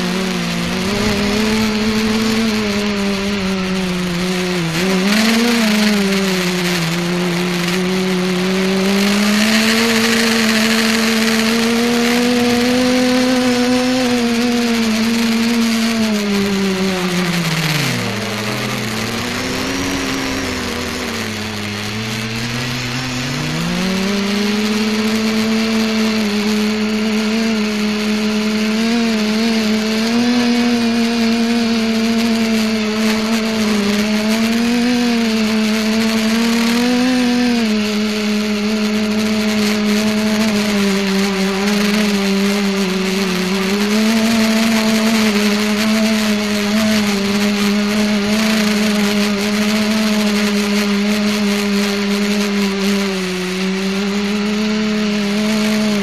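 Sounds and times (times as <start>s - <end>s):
multicopter motors humming: 0.0s - 56.0s.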